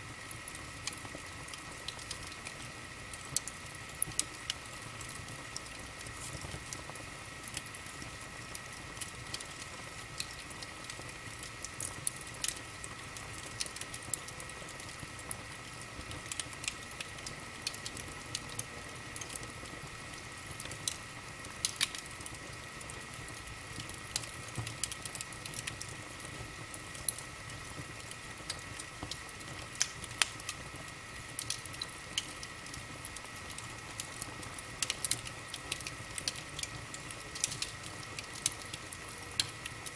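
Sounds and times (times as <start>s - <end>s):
faint fire hiss: 0.0s - 39.9s
wood fire crackling and popping: 0.1s - 39.9s.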